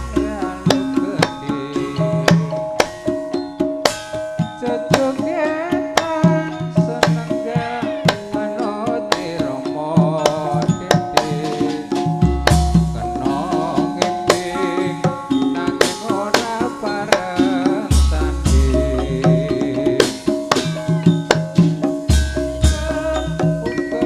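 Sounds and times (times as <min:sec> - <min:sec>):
person singing: 0:00.0 - 0:03.2, 0:04.5 - 0:21.8, 0:22.4 - 0:24.0
hand drum strokes: 0:00.0 - 0:24.0
metallophone notes: 0:00.0 - 0:24.0.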